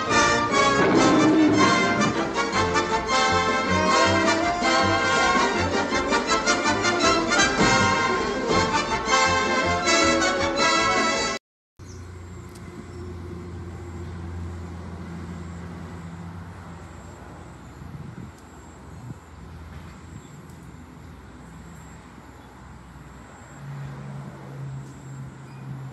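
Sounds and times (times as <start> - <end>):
vehicle engine hum: 0.0 - 9.1, 11.8 - 25.9
faint outdoor background noise: 0.0 - 25.9.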